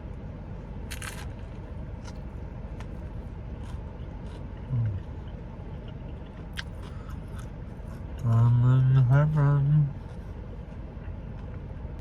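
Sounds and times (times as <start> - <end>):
air conditioner rumbling: 0.0 - 12.0.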